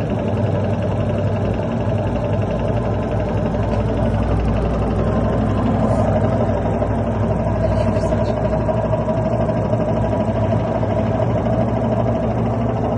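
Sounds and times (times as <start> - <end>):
constant whine: 0.0 - 12.9
low hum: 0.0 - 12.9
washing machine rattling rumble: 0.0 - 12.9.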